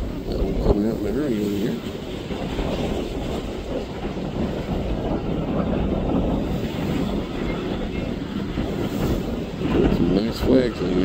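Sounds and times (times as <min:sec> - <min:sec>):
boat engines rumbling: 0:00.0 - 0:11.0
rushing boat wake: 0:00.0 - 0:11.0
wind buffeting microphone: 0:00.0 - 0:11.0.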